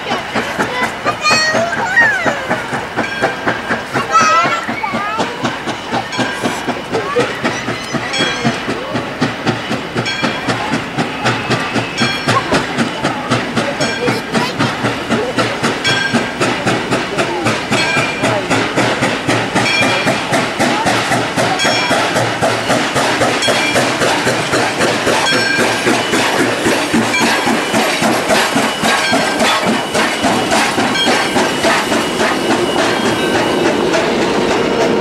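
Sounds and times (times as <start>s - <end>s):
steam locomotive rolling past: 0.0s - 35.0s.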